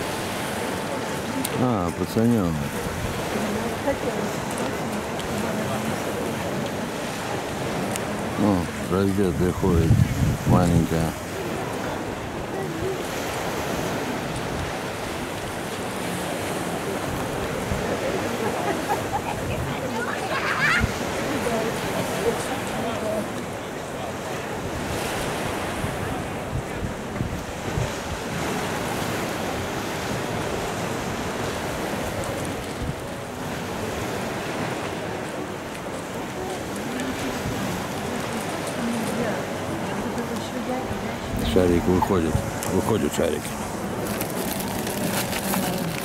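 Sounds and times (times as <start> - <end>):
waves washing onto pebble beach: 0.0 - 46.0
wind on microphone: 2.6 - 20.0, 24.5 - 35.2, 36.6 - 46.0.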